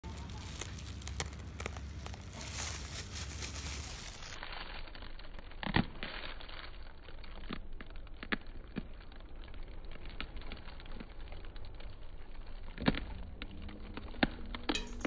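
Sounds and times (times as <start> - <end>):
fruit husk crackling and tearing: 0.0 - 14.8.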